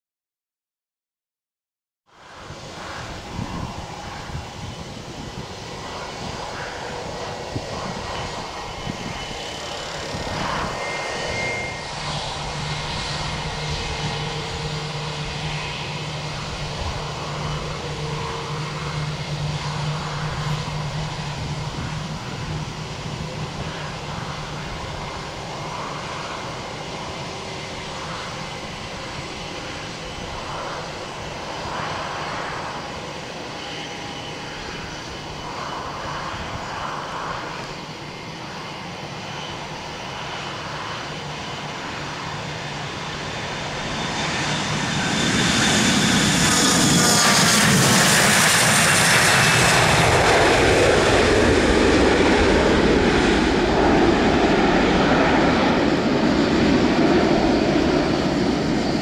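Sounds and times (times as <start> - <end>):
jet engines whining: 2.2 - 59.0.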